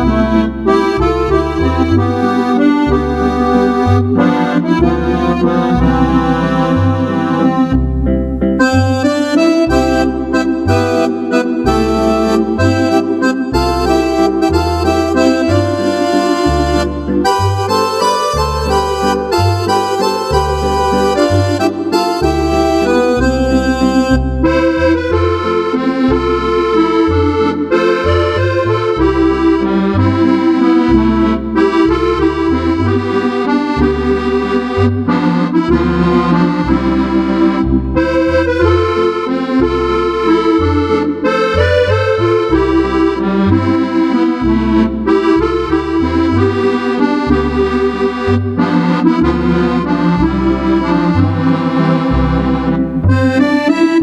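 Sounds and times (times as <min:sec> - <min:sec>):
digital accordion playing a tune: 0:00.0 - 0:54.0.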